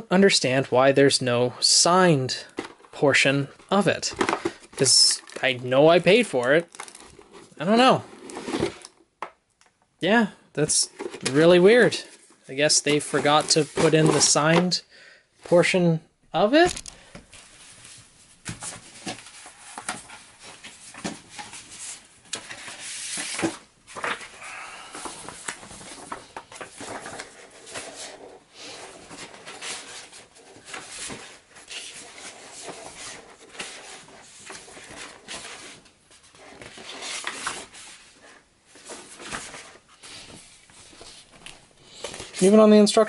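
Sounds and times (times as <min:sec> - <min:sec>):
cardboard and paper rustling: 0:02.4 - 0:09.0, 0:10.7 - 0:14.8, 0:16.6 - 0:42.6.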